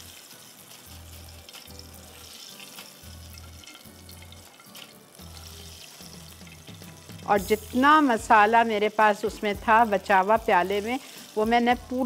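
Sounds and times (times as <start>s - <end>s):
quiet music with pulsing bass: 0.0s - 12.0s.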